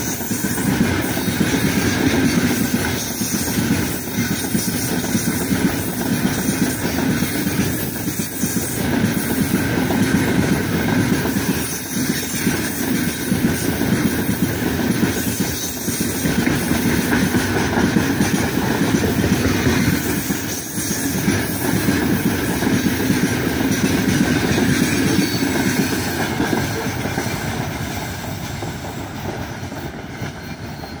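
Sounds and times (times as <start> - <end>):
freight train rumbling on rails: 0.0 - 31.0.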